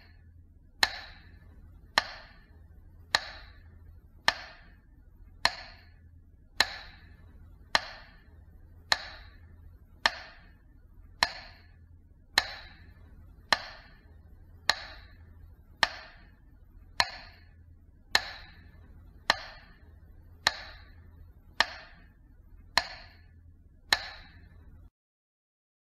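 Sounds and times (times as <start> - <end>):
faint low hum: 0.0 - 24.9
metronome clicks: 0.8 - 4.8, 5.4 - 6.0, 6.6 - 24.9.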